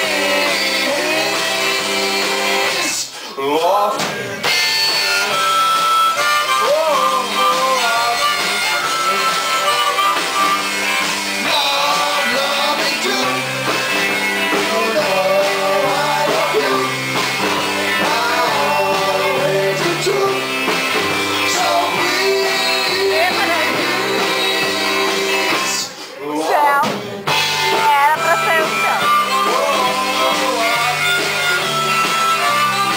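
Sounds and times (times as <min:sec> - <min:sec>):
rock band playing blues-rock: 0:00.0 - 0:03.2, 0:03.8 - 0:32.9
harmonica lead: 0:04.4 - 0:25.9, 0:27.3 - 0:32.9.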